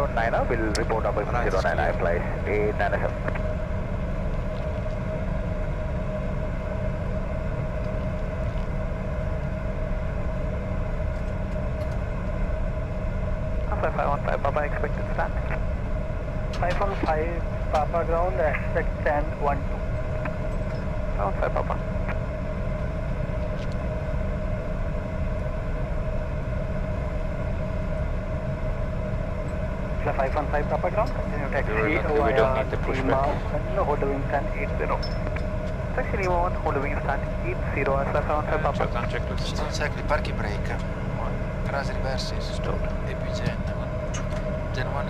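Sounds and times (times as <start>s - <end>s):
constant hum: 0.0s - 45.0s
jet engines idling: 0.0s - 45.0s.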